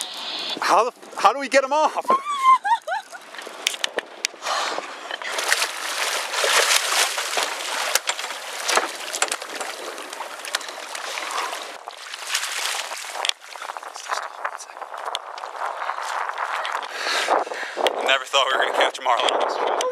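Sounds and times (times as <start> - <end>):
water splashing along a hull: 0.0 - 19.9.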